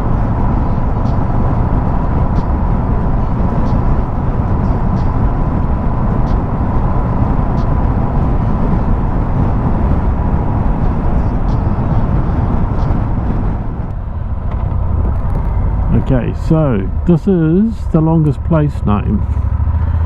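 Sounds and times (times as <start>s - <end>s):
motorcycle engine running: 0.0s - 20.0s
wind rush over microphone: 0.0s - 20.0s.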